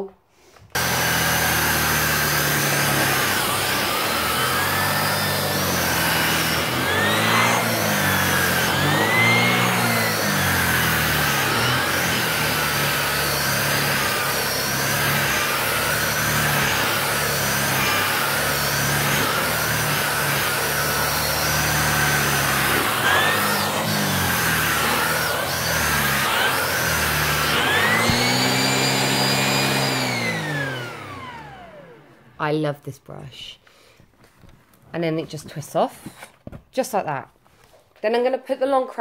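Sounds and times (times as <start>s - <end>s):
vacuum cleaner running: 0.7s - 32.8s.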